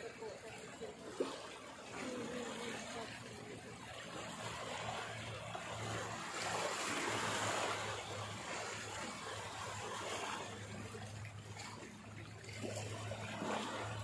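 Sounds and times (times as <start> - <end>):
low steady hum: 0.0 - 14.0
water rushing and swishing: 0.0 - 14.0.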